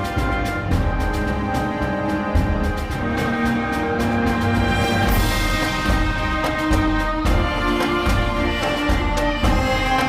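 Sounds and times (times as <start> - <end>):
music with sustained chords: 0.0 - 10.0.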